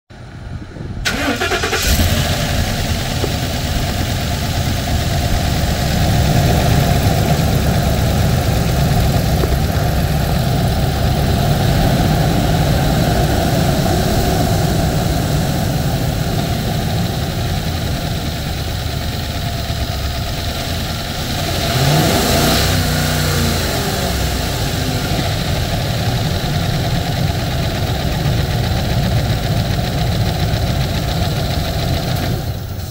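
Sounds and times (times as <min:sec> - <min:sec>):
engine starting and idling: 0:01.0 - 0:32.9
engine revving: 0:01.1 - 0:32.9.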